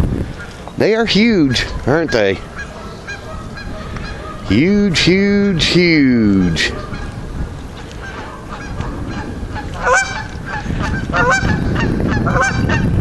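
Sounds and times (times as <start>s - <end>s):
geese honking: 1.0s - 4.7s, 5.8s - 12.9s.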